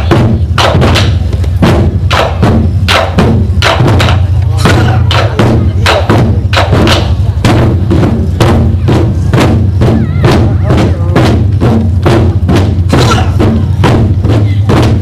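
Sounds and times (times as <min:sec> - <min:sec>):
drums in steady beat: 0:00.0 - 0:15.0.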